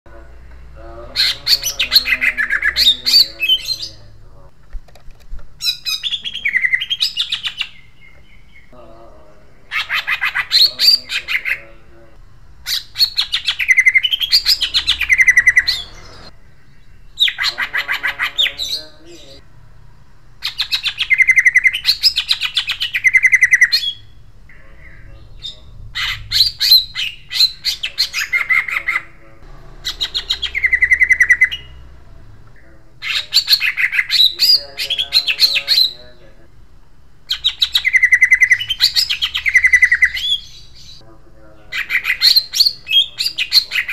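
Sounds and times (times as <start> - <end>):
bird singing harsh rolling notes: 0.1 - 4.5, 5.6 - 43.9.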